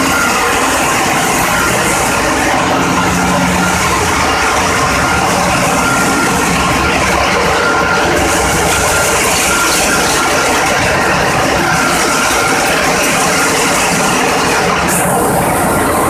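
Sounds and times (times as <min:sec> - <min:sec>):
ship diesel engines running: 0:00.0 - 0:16.0.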